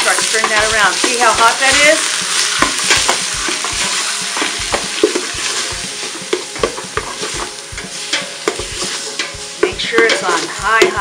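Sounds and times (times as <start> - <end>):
meat sizzling in hot oil: 0.0 - 11.0
metal spoon scraping pot: 0.0 - 11.0.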